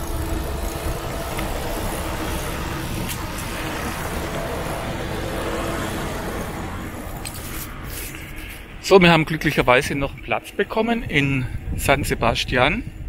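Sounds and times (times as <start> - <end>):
road traffic noise: 0.0 - 11.8.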